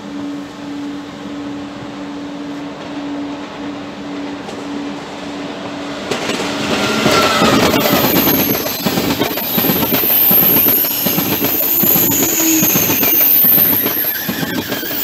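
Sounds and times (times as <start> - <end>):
electric train steady hum: 0.0 - 15.0
train wheel and air rush: 0.0 - 15.0.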